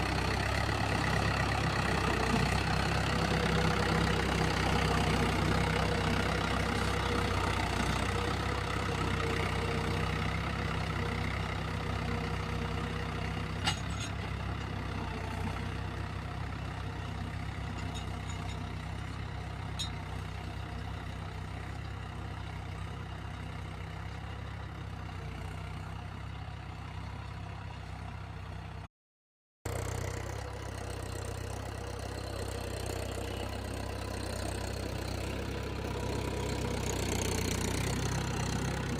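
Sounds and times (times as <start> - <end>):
tractor engine running: 0.0 - 28.8, 29.7 - 38.9.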